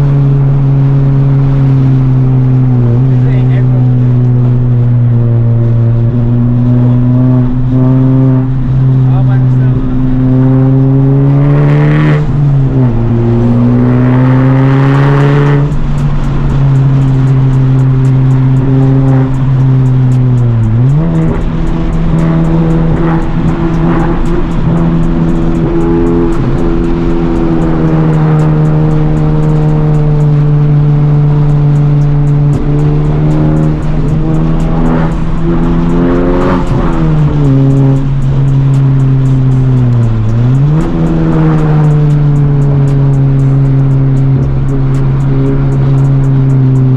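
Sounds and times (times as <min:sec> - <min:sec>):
turbocharged car engine accelerating: 0:00.0 - 0:46.9.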